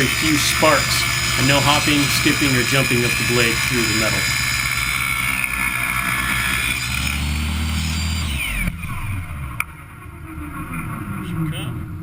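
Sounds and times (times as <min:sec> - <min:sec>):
miter saw whine winding down: 0:00.0 - 0:11.1.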